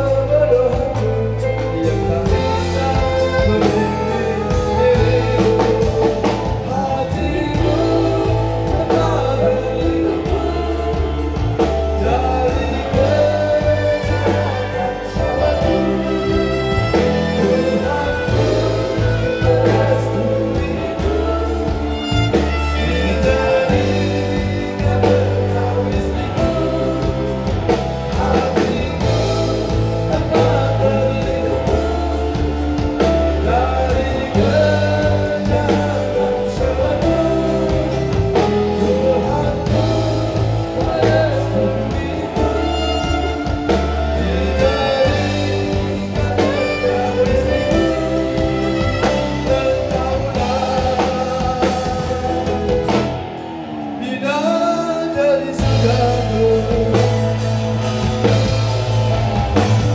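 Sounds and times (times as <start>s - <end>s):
live band playing pop song: 0.0s - 59.9s
man singing into microphone: 0.0s - 59.9s.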